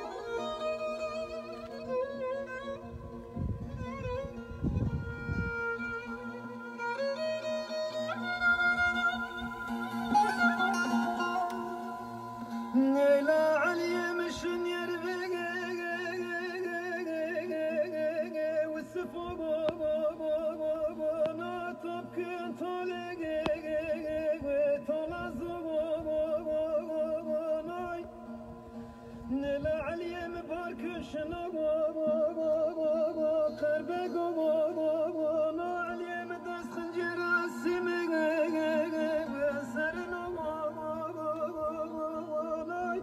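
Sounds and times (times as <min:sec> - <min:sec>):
person singing ornamented melody: 0:00.0 - 0:43.0.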